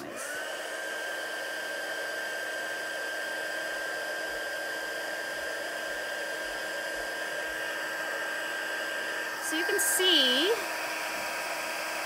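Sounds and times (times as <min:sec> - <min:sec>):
heat tool blowing hot air: 0:00.0 - 0:12.0.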